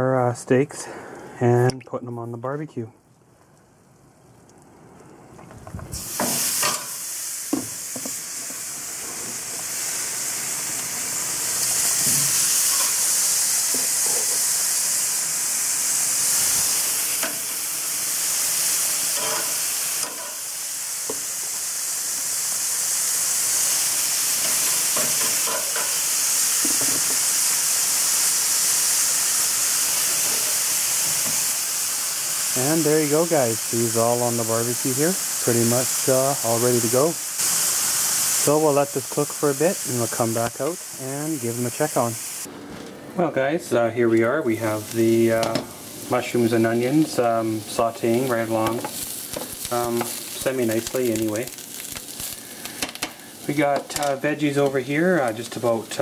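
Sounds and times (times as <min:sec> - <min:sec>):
steaks sizzling on grill: 0:05.8 - 0:42.6, 0:43.7 - 0:56.0.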